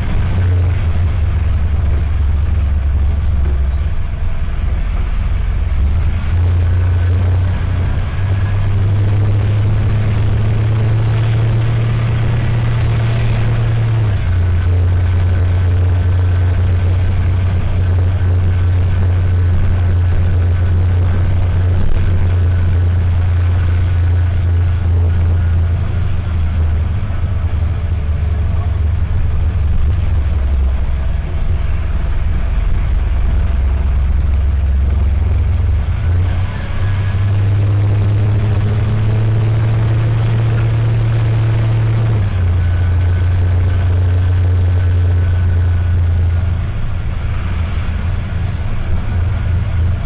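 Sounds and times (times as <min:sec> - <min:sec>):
bus diesel engine: 0:00.0 - 0:50.0.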